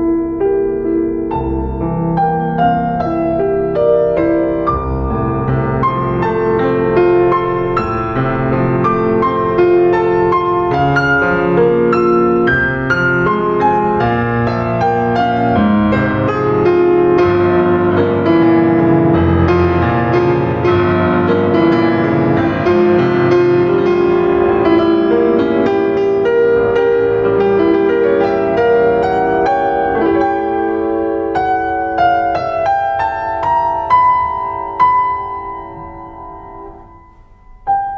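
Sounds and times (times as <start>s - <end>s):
piano music: 0.0s - 37.9s.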